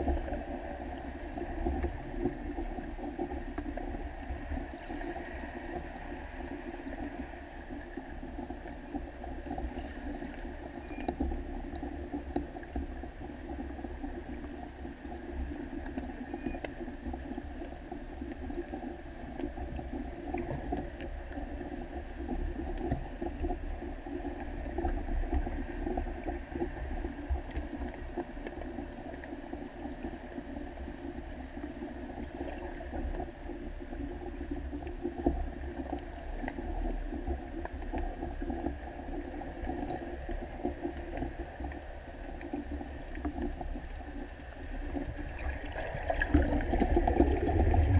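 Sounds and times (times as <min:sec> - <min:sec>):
muffled underwater rumble: 0:00.0 - 0:47.9
underwater ticks and gurgles: 0:00.0 - 0:47.9.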